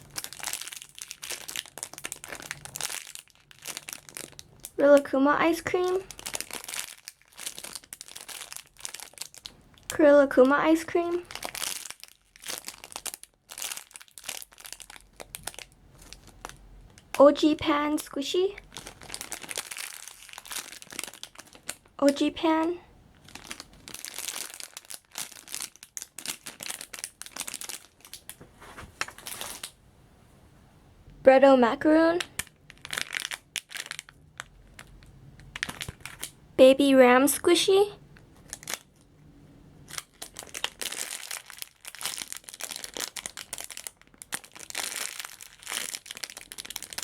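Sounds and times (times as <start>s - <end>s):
plastic packaging crinkling: 0.0s - 22.4s, 23.1s - 29.8s, 32.2s - 36.4s, 38.1s - 39.1s, 39.8s - 47.0s.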